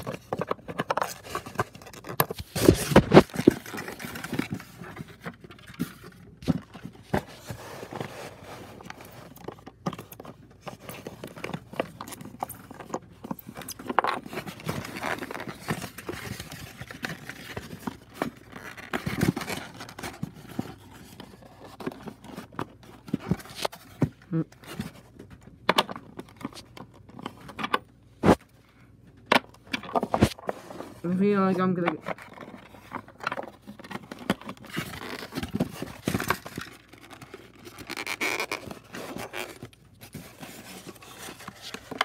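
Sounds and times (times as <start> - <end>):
packaging scraping and rustling: 0.0 - 27.6, 29.8 - 42.0.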